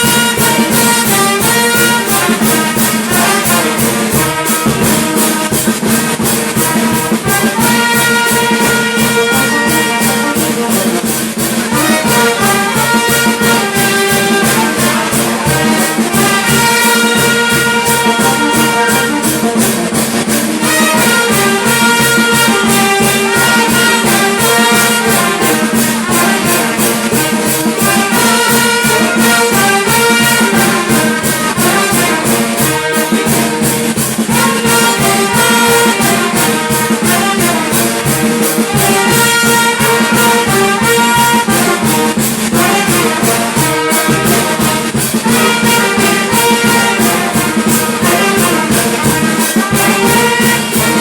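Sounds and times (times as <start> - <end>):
driving percussion beat: 0.0 - 51.0
trumpets and trombones: 0.0 - 51.0.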